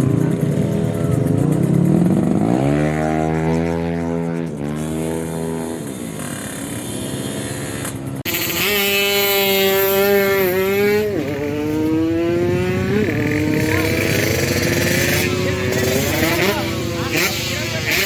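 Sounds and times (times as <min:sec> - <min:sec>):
racing motorcycle engine revving: 0:00.0 - 0:18.0.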